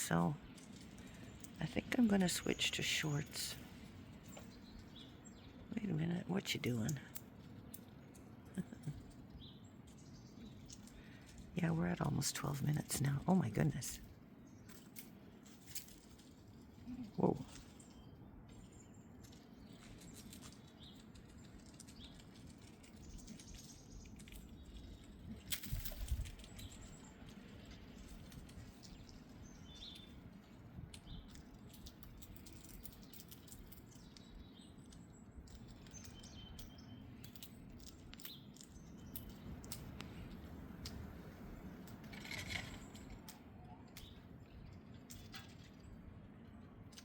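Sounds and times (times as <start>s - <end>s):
small clicks and rustles: 0.0s - 47.0s.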